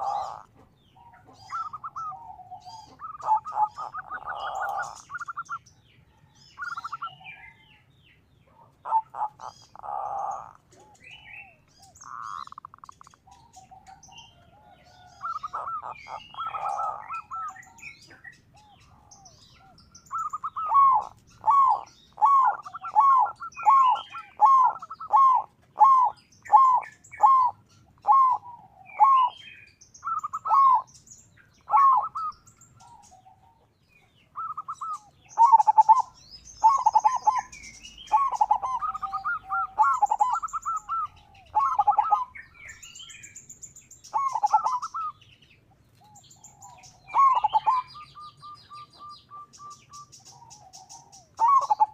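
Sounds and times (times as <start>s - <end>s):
dove cooing: 0.0s - 7.9s, 8.5s - 43.4s, 44.0s - 51.9s
small birds chirping: 0.0s - 51.9s.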